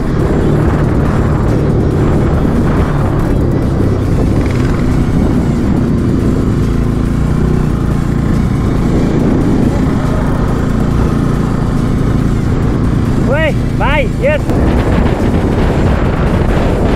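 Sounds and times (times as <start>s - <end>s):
motorcycle engine running: 0.0s - 16.9s
wind noise: 0.0s - 16.9s.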